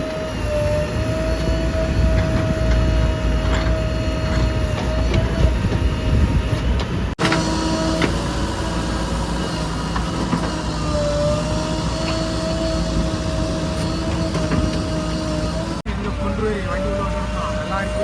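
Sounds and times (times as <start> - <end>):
diesel engines rumbling: 0.0 - 18.0.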